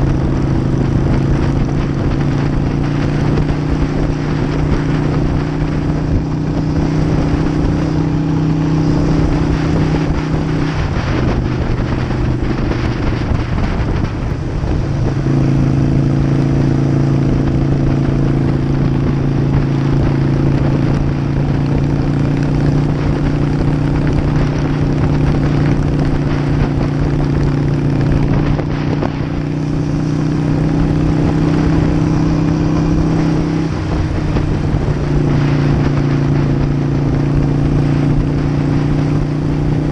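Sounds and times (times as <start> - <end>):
motorcycle engine drone: 0.0 - 39.9
rushing wind noise: 0.0 - 39.9.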